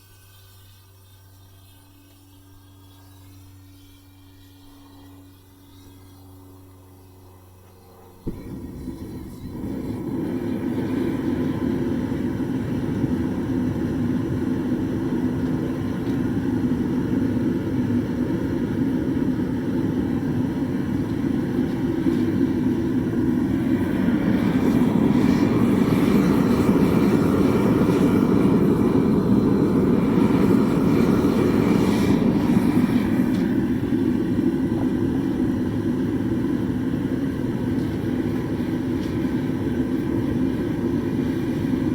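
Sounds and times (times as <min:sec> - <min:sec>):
furnace burner flame rushing: 0:07.6 - 0:41.9.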